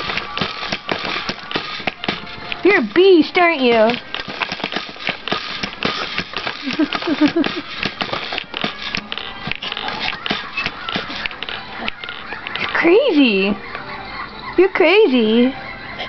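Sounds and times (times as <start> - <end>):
baby jumper frame rattling: 0.0 - 13.5.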